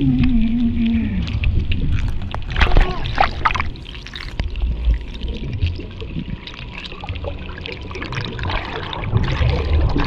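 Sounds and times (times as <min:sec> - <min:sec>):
water rushing and bubbling: 0:00.0 - 0:10.0.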